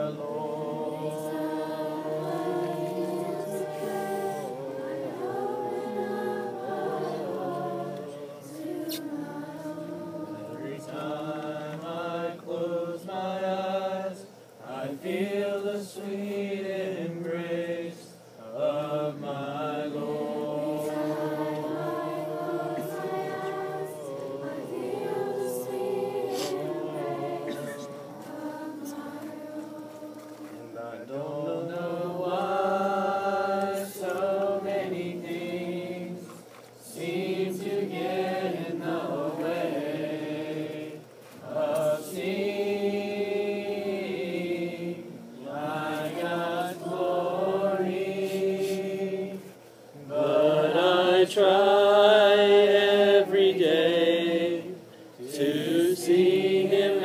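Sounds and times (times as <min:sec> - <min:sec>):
group singing worship song: 0:00.0 - 0:57.0.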